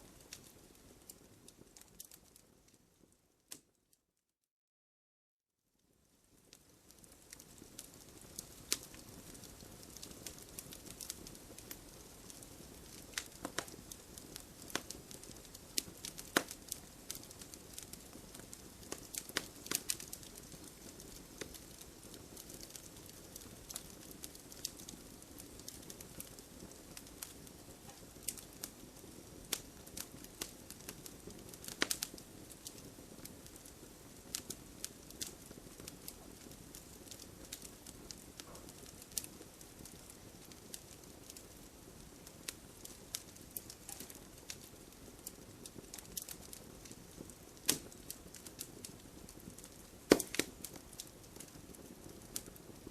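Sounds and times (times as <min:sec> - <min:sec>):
wood fire crackling: 0:00.0 - 0:03.8, 0:05.8 - 0:52.9
flame hissing: 0:06.9 - 0:52.9.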